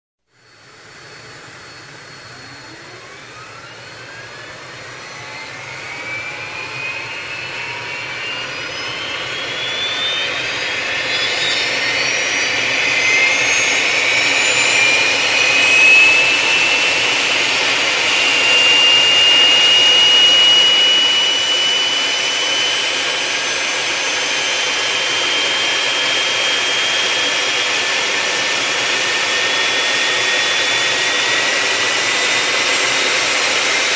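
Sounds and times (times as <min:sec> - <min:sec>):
jet turbine whine: 0:00.3 - 0:33.9.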